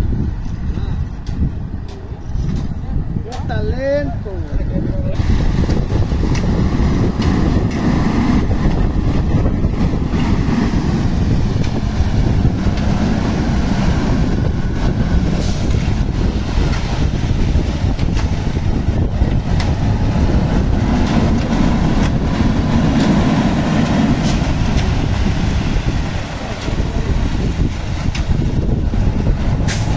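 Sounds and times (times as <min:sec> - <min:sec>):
concrete mixer engine rumbling: 0:00.0 - 0:29.9.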